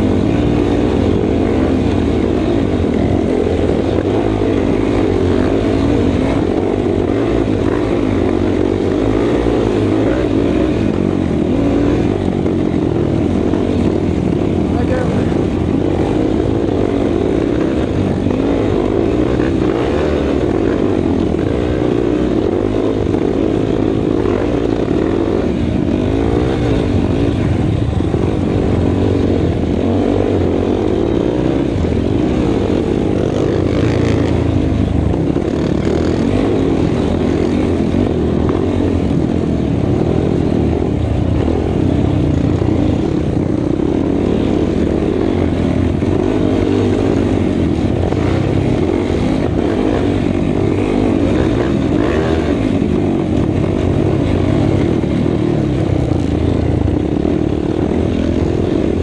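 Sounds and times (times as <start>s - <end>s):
atv engine running hard: 0.0s - 59.0s.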